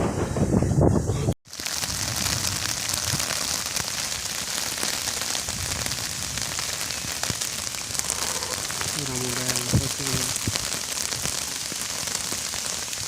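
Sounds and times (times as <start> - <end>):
steady rain falling: 1.5 - 13.0.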